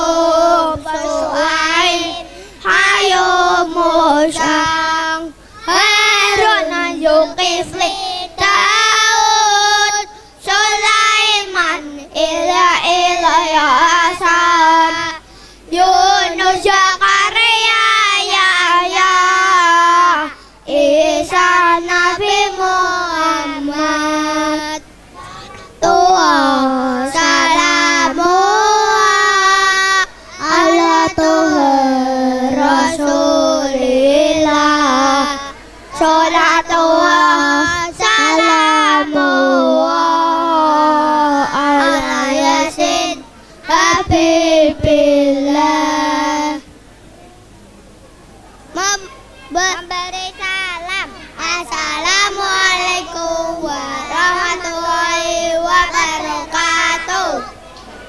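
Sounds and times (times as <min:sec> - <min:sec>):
boys singing together: 0:00.0 - 0:46.8, 0:48.8 - 0:58.0.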